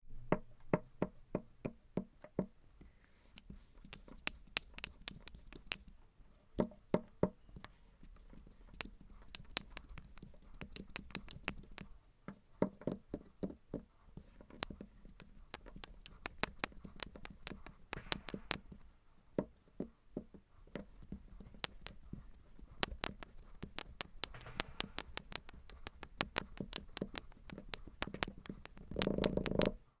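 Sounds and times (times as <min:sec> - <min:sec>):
sand clicks and taps: 0:00.7 - 0:06.0, 0:06.6 - 0:29.8.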